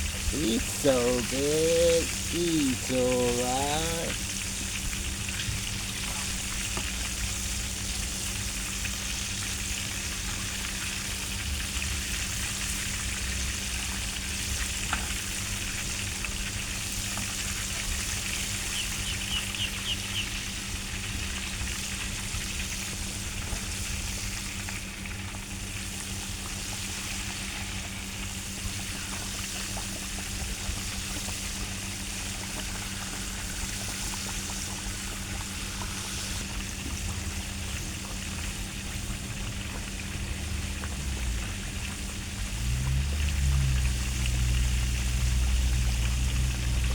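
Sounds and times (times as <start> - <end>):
chicken sizzling in hot oil: 0.0 - 46.9.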